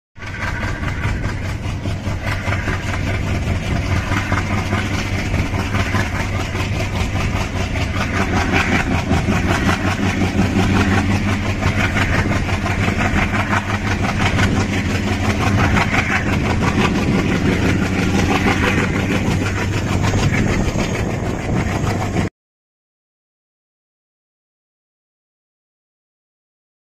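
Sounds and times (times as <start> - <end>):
diesel locomotive engine droning: 0.2 - 22.3
train running noise: 0.2 - 22.3.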